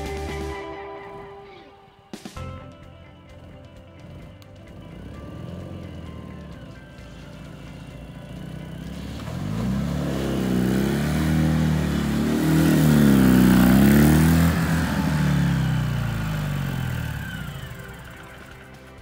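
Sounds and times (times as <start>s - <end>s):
motorcycle passing by: 3.3s - 19.0s.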